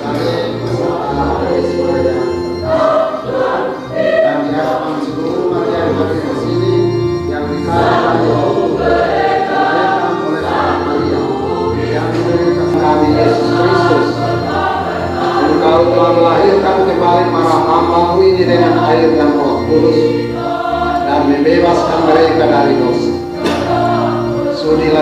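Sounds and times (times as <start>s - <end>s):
choir singing a hymn: 0.0s - 25.0s
low accompaniment: 0.0s - 25.0s.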